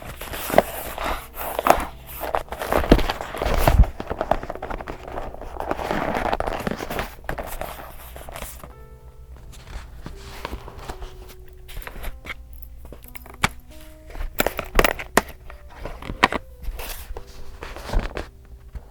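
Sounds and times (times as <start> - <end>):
paper rustling and tapping: 0.0 - 8.8, 9.4 - 18.9
soft background music: 0.0 - 18.9.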